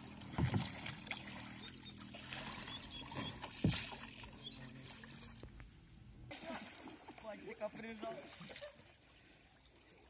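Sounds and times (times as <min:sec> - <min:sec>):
paddle splashing in water: 0:00.0 - 0:05.5, 0:06.3 - 0:10.0.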